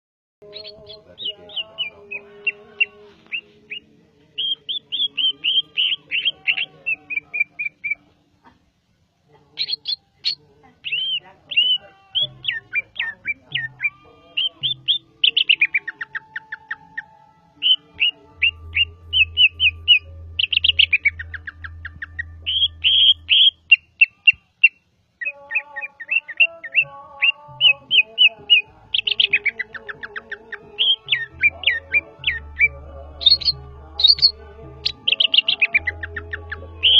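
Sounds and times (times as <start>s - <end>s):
bird singing chirps and whistles: 0.4s - 8.1s, 9.6s - 36.9s.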